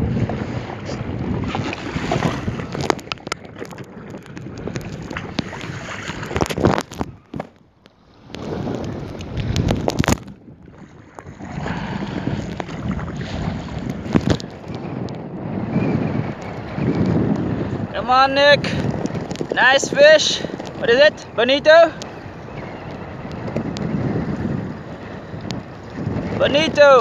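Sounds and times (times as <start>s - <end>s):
water splashing against kayak: 0.0s - 27.0s
wind buffeting microphone: 0.0s - 27.0s.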